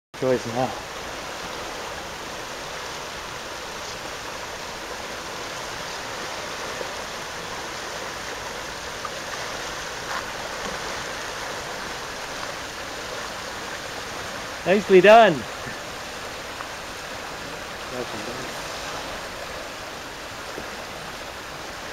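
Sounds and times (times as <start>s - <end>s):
seawater rushing: 0.2s - 21.9s.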